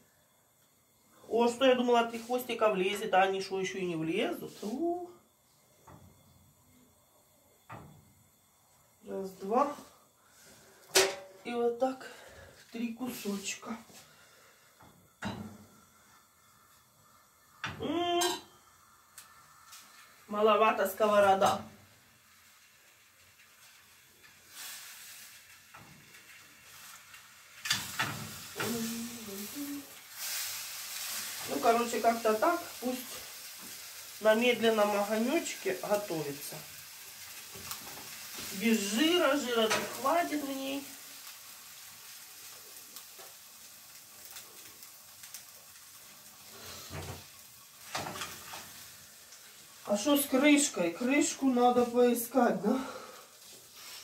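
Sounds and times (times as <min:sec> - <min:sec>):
fish sizzling in frying pan: 0:05.6 - 0:54.0.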